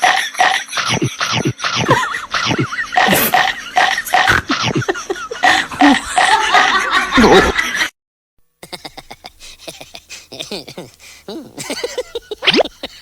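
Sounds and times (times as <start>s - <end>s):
loud laughter: 0.0s - 7.9s, 8.6s - 13.0s.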